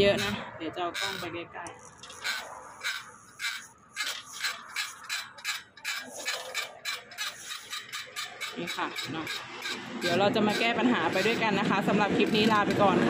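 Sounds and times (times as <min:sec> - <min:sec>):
bicycle wheel spinning with scraping rub: 0:00.0 - 0:13.0.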